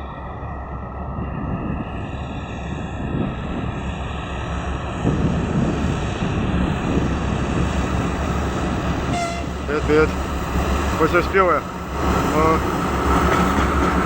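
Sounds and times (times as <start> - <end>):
diesel locomotive engines labouring: 0.0 - 14.0.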